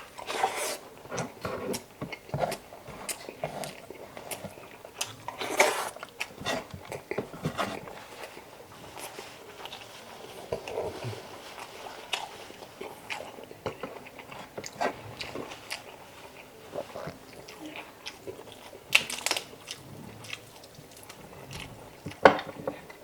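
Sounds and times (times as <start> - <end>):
close chewing and biting: 0.0 - 23.0.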